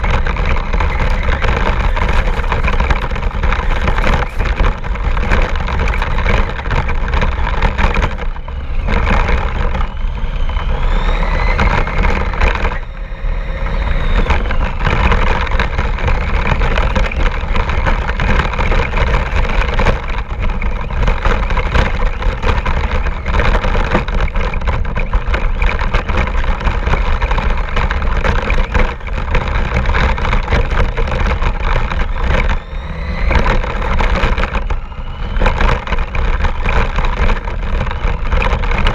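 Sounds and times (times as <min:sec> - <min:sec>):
electric motor whine: 0:00.0 - 0:38.9
tyres rumbling over ground: 0:00.0 - 0:38.9.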